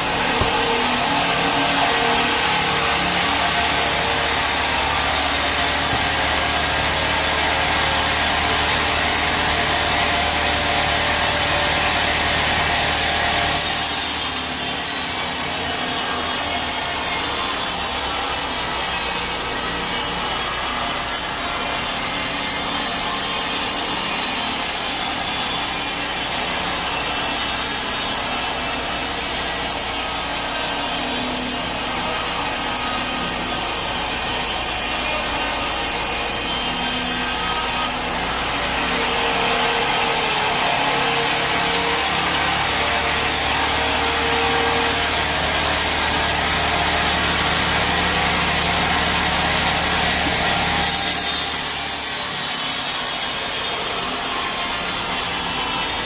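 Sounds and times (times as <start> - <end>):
band saw cutting through log: 0.0 - 56.0.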